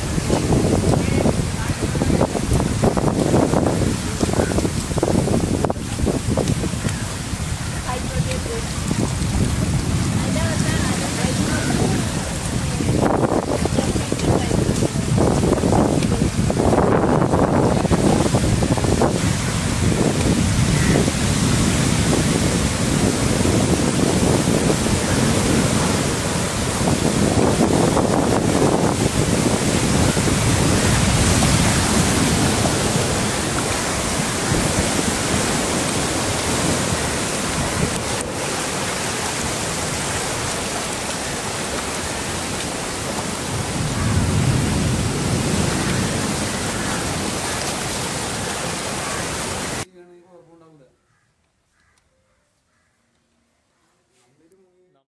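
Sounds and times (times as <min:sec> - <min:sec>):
surf rushing through flooded ground: 0:00.0 - 0:49.9.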